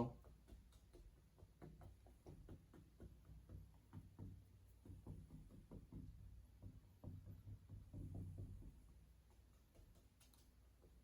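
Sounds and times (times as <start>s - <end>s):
brush tapping on canvas: 0.0s - 11.0s.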